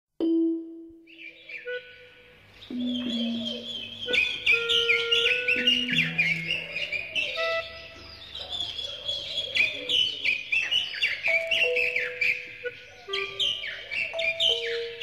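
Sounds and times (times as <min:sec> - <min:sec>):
held lower bird notes: 0:00.2 - 0:08.5, 0:09.2 - 0:15.0
bird mewing calls: 0:01.2 - 0:15.0.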